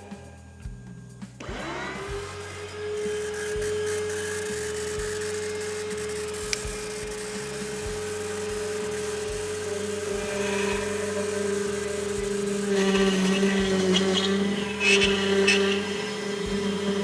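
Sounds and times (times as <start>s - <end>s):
router spindle milling wood: 1.4s - 17.0s.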